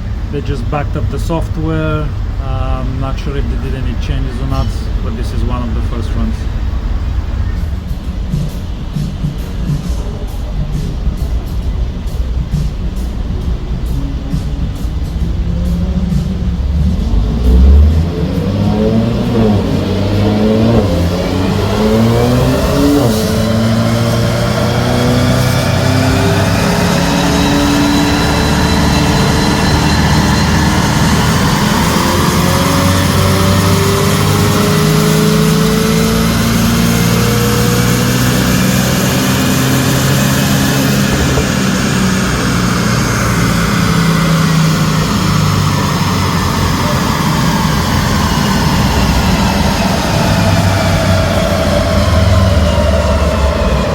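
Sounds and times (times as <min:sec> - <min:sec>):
car engine revving on dyno: 0:00.0 - 0:53.9.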